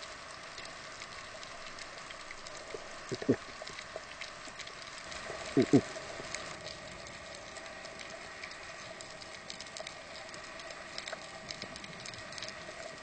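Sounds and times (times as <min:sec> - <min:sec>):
faint crackling clicks: 0:00.0 - 0:13.0.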